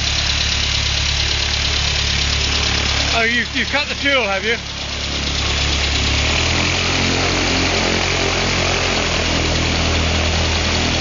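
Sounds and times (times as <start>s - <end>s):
aircraft engine running: 0.0s - 11.0s.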